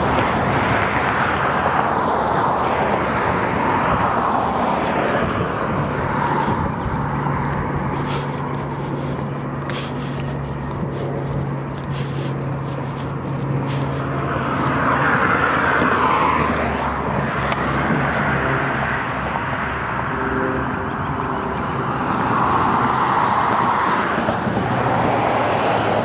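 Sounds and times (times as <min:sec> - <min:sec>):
cars passing: 0:00.0 - 0:26.0
steady traffic hum: 0:00.0 - 0:26.0.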